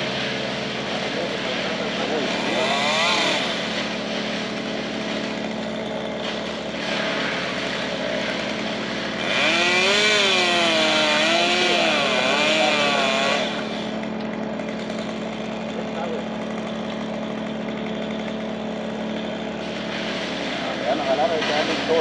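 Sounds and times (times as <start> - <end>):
chainsaw revving and cutting: 0.0 - 22.0.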